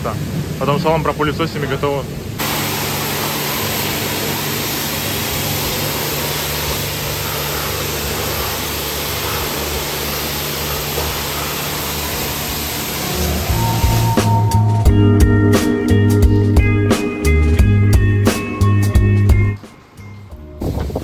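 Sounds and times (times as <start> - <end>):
pressure washer water jet hissing: 2.4 - 19.2
low motor hum: 2.4 - 19.6.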